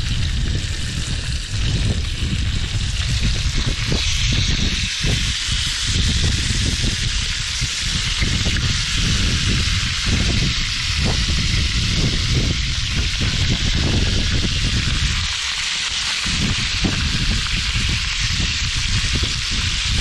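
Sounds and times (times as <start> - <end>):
wind buffeting microphone: 0.0 - 15.6, 16.2 - 20.0
seafood sizzling in frying pan: 0.0 - 20.0.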